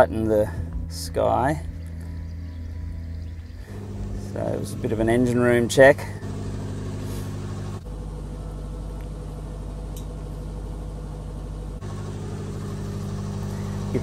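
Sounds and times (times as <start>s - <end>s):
engine room machinery hum: 0.0s - 14.0s.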